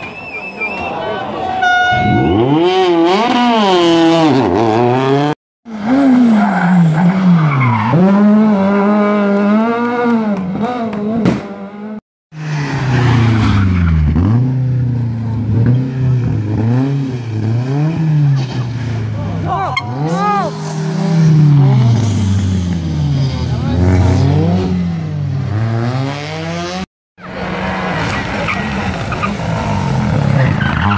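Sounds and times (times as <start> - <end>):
tyres skidding: 0.0 - 11.7, 12.4 - 30.9
rally car engines revving: 2.1 - 30.9.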